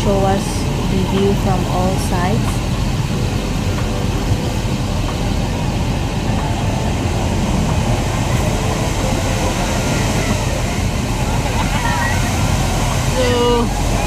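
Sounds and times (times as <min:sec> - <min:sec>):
waterfall roaring: 0:00.0 - 0:14.0
wind buffeting microphone: 0:00.0 - 0:14.0.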